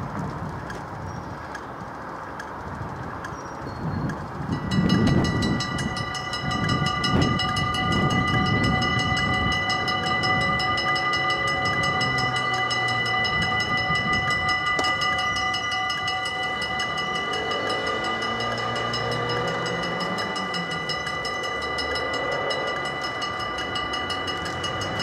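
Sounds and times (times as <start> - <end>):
level crossing bells ringing: 4.5 - 25.0.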